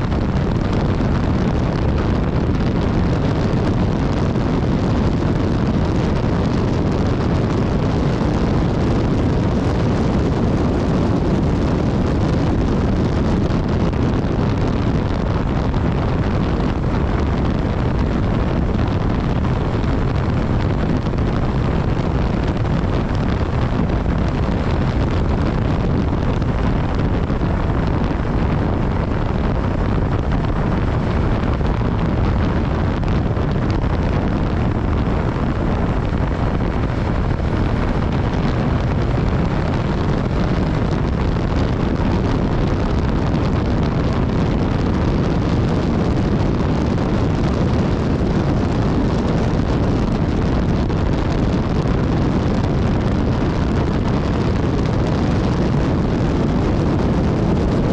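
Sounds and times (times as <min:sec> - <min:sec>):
wind rushing on microphone: 0:00.0 - 0:57.9.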